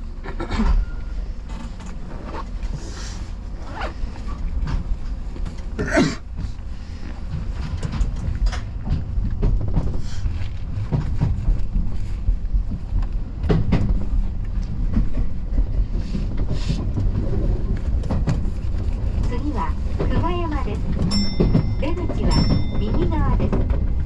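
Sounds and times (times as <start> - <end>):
train rumbling on track: 0.0 - 24.0
wheels clacking on rails: 0.0 - 24.0.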